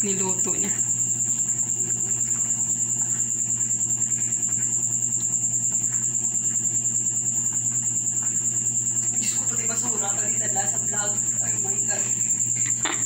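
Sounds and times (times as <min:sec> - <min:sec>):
cricket trilling: 0:00.0 - 0:13.0
low steady hum: 0:00.0 - 0:13.0.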